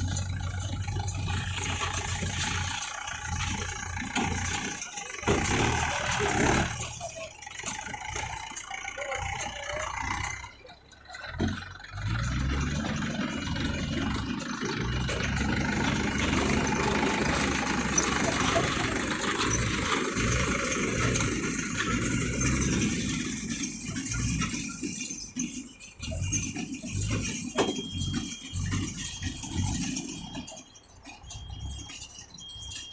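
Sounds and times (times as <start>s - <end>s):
baler mechanical rattling: 0.0s - 32.9s
tractor diesel engine running: 0.0s - 32.9s.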